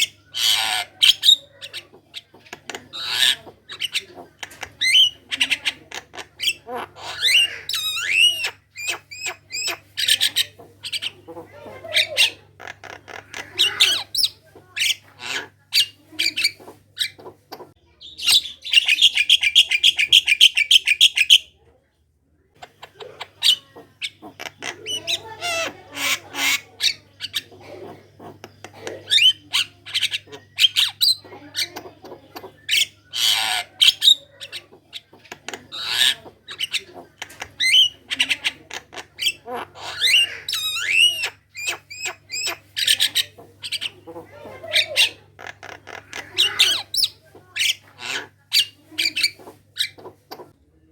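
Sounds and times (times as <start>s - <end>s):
myna bird chattering: 0.0s - 21.6s, 22.6s - 50.6s.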